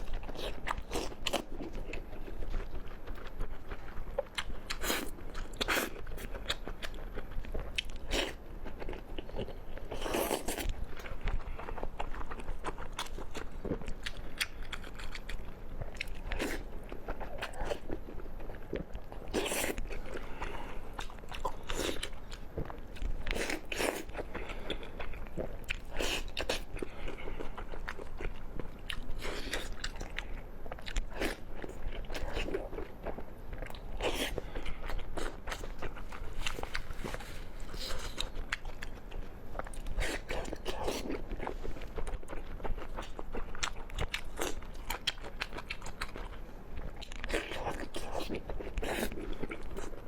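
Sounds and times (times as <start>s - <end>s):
person chewing crunchy food: 0.0s - 50.0s.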